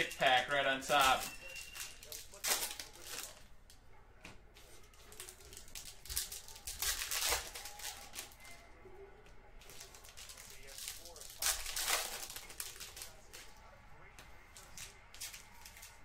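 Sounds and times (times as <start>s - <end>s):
card pack wrappers crinkling: 0.0s - 3.8s, 4.7s - 8.6s, 9.6s - 13.7s, 14.3s - 16.0s.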